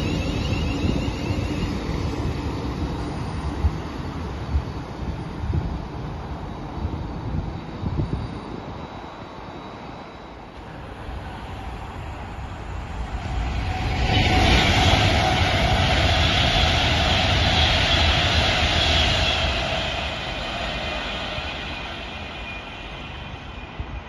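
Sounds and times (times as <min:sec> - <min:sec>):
train passing at speed: 0:00.0 - 0:24.0
wheels roaring on rail: 0:00.0 - 0:24.0.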